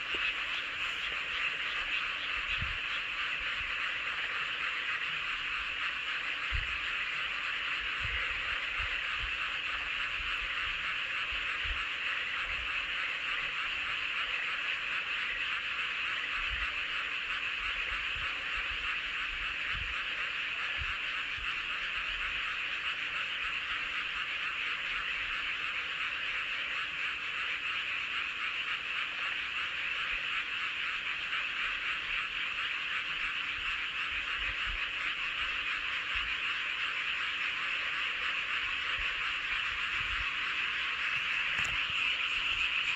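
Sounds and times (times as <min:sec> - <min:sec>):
chorus of frogs calling: 0:00.0 - 0:42.9.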